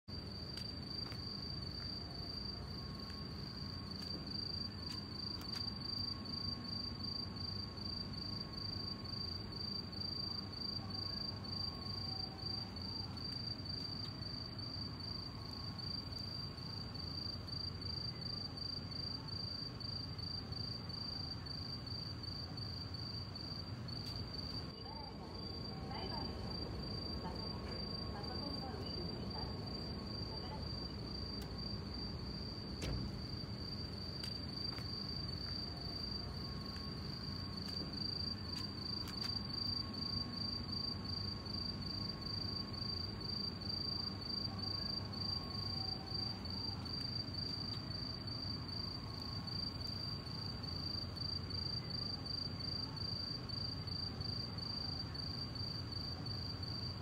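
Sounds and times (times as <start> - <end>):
background street noise: 0.1 - 57.0
cricket chirping: 0.1 - 57.0.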